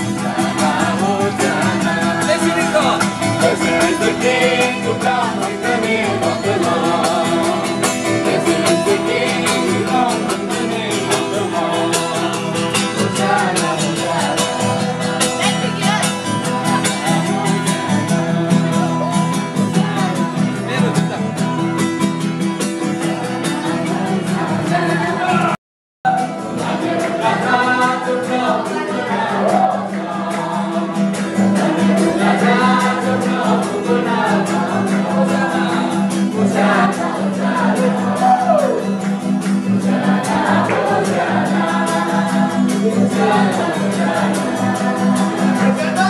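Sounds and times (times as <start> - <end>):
group of people singing: 0.0 - 21.2, 21.9 - 46.0
acoustic guitar: 0.0 - 46.0.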